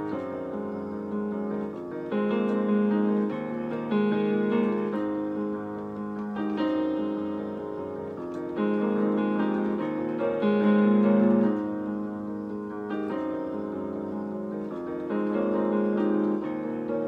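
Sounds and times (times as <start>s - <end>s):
electronic keyboard piano chords: 0.0s - 17.0s.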